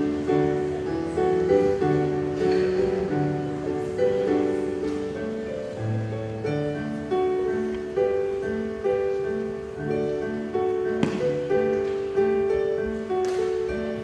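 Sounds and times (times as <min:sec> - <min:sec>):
electronic keyboard piano tune: 0:00.0 - 0:14.0.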